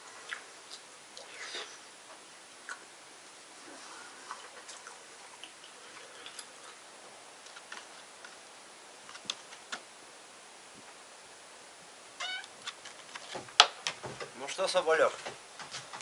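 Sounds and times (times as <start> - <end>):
quiet hiss: 0.0 - 16.0.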